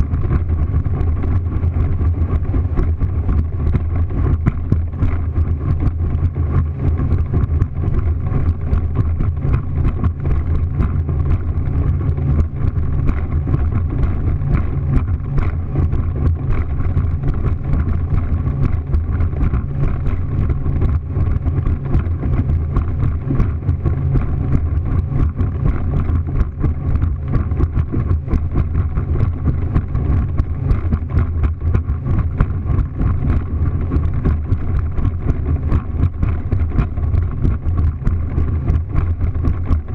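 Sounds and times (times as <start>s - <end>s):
hull knocking on waves: 0.0s - 39.9s
motorboat motor drone: 0.0s - 39.9s.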